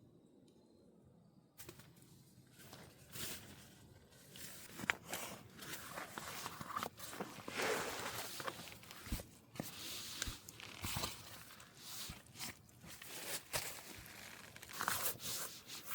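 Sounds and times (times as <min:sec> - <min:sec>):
gear rustling: 0:02.6 - 0:15.9.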